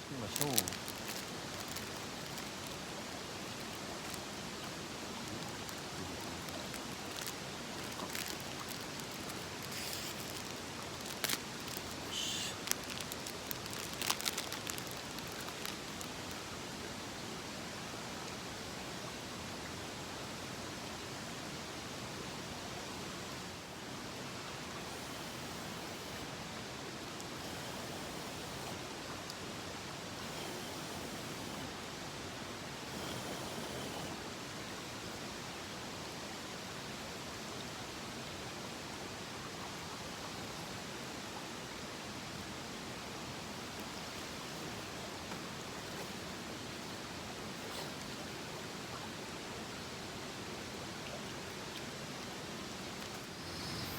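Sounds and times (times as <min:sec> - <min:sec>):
mountain stream rushing: 0:00.0 - 0:53.9.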